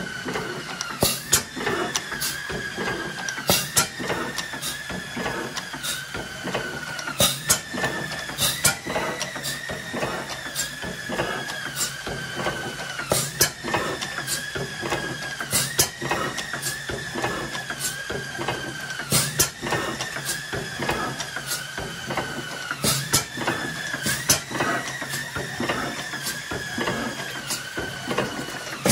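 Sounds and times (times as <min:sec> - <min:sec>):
oil engine running: 0:00.0 - 0:28.9
valve gear clicking and clattering: 0:00.0 - 0:28.9.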